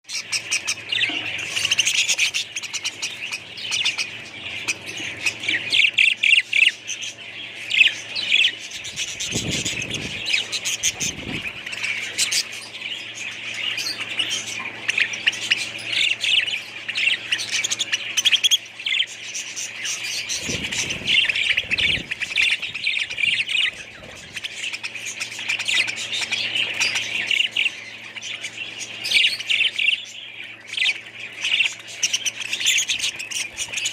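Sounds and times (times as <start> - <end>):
small birds chattering and chirping: 0.0 - 33.9.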